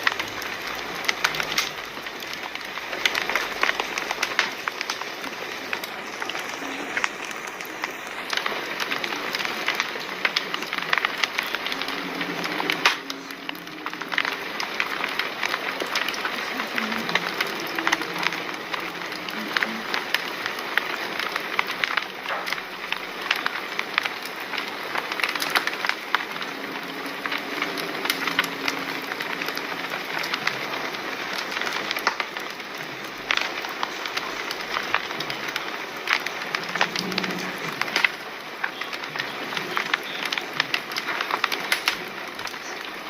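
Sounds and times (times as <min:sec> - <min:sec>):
fire crackling: 0:00.0 - 0:43.0.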